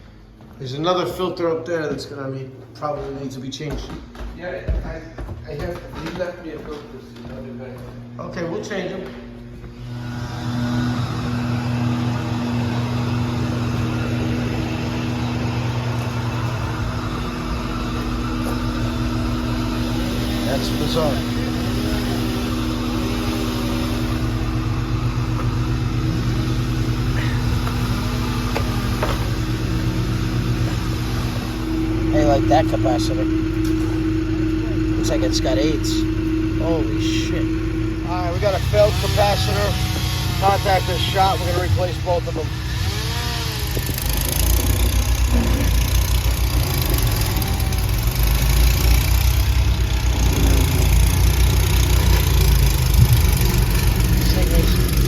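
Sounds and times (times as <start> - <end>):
air conditioner humming: 0.0 - 55.0
fan whooshing: 6.4 - 55.0.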